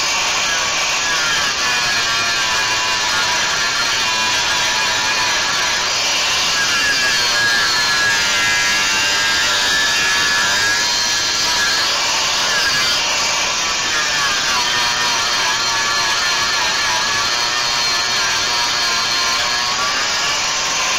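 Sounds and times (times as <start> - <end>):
power tool grinding steel: 0.0 - 20.9.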